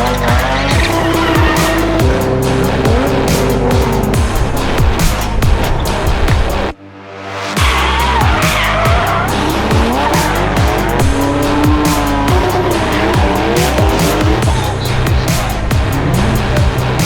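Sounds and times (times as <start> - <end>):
car tyres squealing: 0.0 - 6.7, 7.6 - 17.0
engine revving: 0.0 - 6.8, 7.6 - 17.0
electronic music with heavy beat: 0.0 - 17.0.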